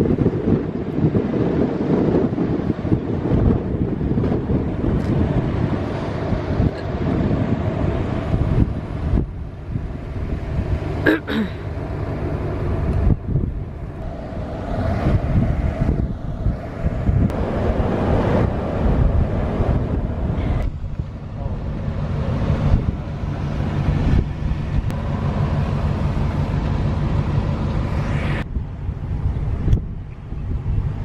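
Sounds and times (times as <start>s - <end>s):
low engine hum: 0.0s - 31.0s
vehicle road noise: 0.0s - 31.0s
wind buffeting microphone: 0.0s - 31.0s.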